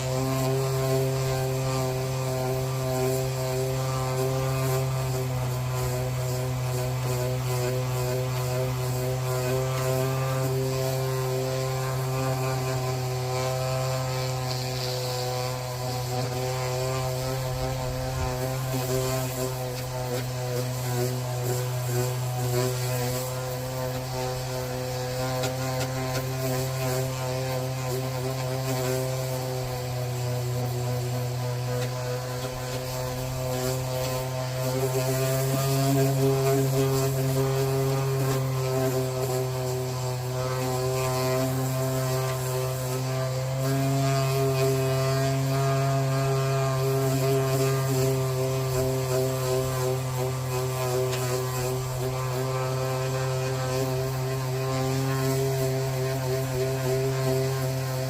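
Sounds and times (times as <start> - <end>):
motor humming: 0.0 - 58.0.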